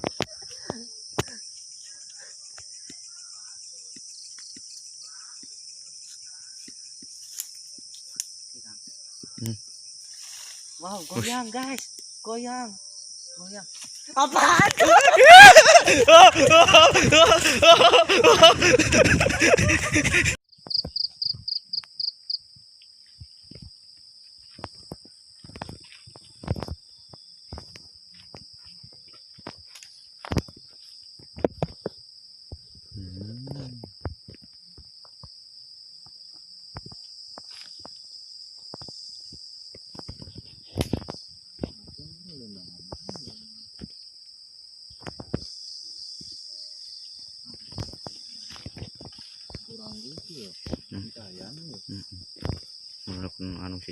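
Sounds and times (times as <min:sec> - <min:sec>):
crickets trilling: 0:00.0 - 0:53.9
higher insect trill: 0:00.0 - 0:53.9.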